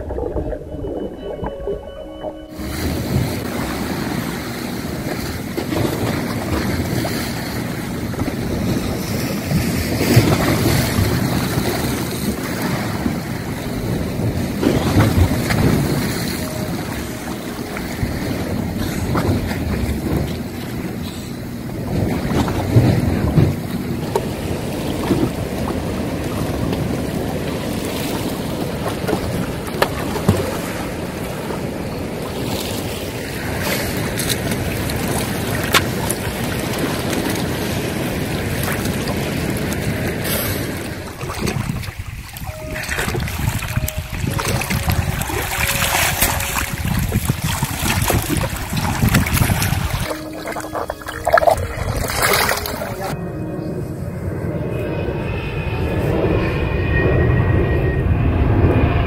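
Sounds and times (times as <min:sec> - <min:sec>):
waves splashing: 0:00.0 - 0:56.6
wind buffeting microphone: 0:00.0 - 0:59.0.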